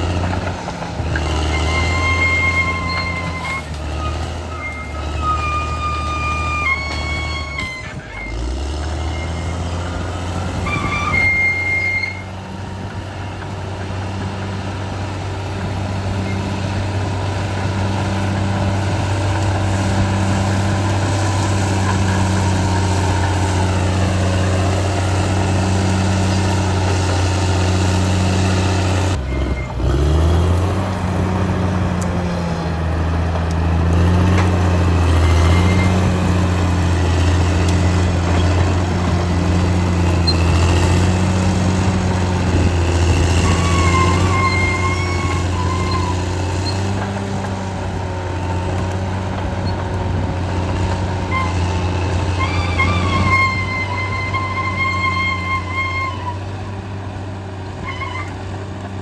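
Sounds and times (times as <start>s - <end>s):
bulldozer diesel engine humming: 0.0s - 59.0s.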